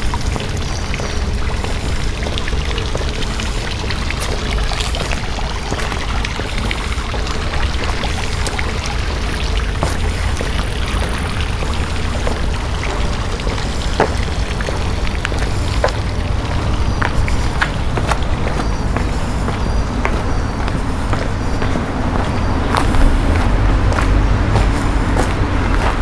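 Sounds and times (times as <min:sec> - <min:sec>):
footsteps on gravel path: 0:00.0 - 0:26.0
wind rumbling on microphone: 0:00.0 - 0:26.0.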